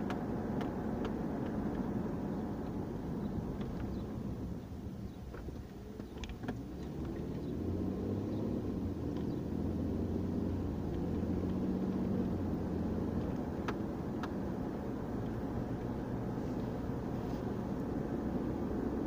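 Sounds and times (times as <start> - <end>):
car engine and tyre noise: 0.0 - 19.0.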